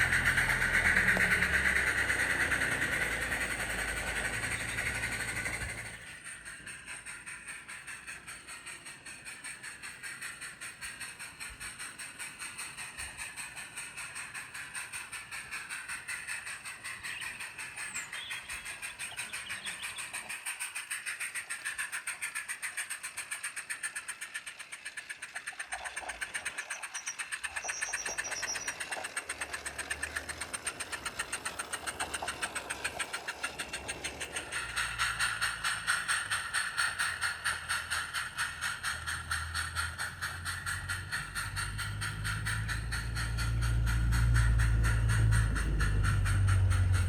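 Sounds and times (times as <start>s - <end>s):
model steam locomotive chuffing: 0.0s - 47.0s.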